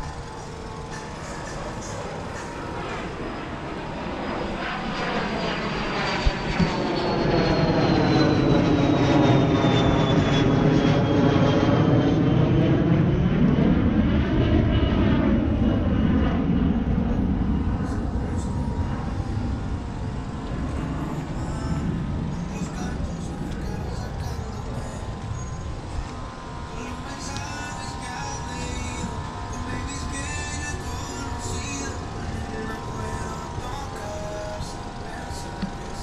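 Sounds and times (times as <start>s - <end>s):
aircraft flying over: 0.0s - 36.0s
high whine falling in pitch: 0.0s - 36.0s.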